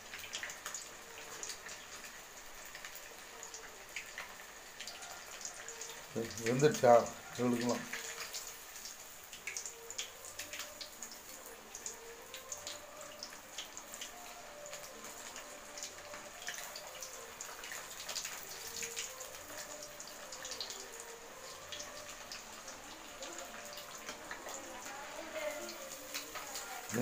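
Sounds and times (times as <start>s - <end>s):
fish deep-frying in oil: 0.0s - 27.0s.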